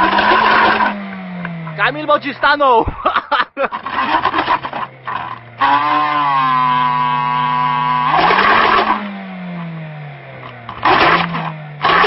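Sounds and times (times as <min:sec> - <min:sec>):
buzzing car engine: 0:00.0 - 0:12.0.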